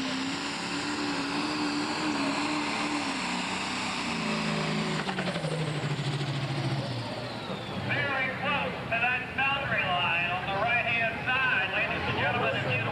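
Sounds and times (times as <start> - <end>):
tractor diesel engine under load: 0.0 - 12.9.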